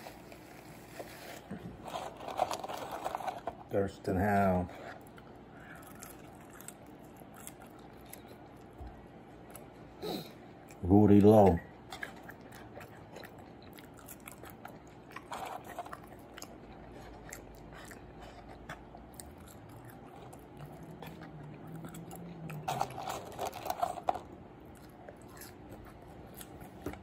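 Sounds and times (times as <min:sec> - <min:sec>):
person chewing food: 0:04.7 - 0:27.0.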